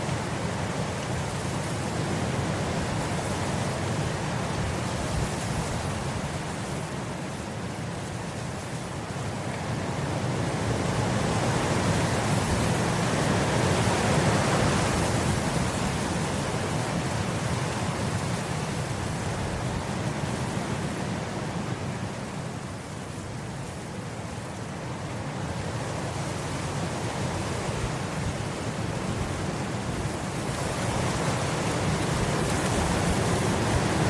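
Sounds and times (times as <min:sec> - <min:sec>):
wind blowing across grass: 0:00.0 - 0:34.0.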